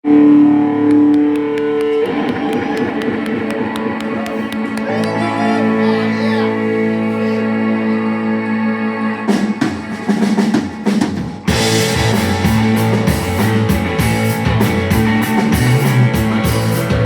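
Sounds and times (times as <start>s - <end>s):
rock band playing: 0.3s - 7.5s, 9.3s - 17.0s.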